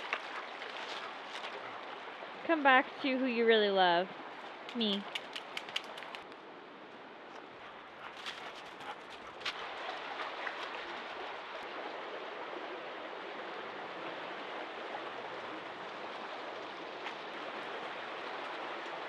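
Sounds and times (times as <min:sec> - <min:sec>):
creek rushing over rocks: 0:00.0 - 0:06.3, 0:08.4 - 0:19.0.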